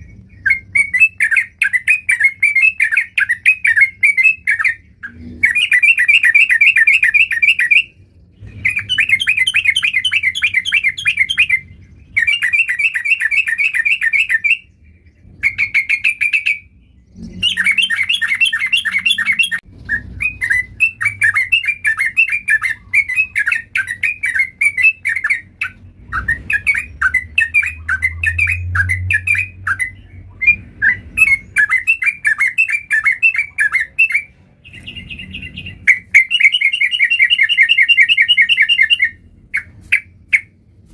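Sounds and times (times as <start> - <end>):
bulbul singing: 0.0 - 40.6.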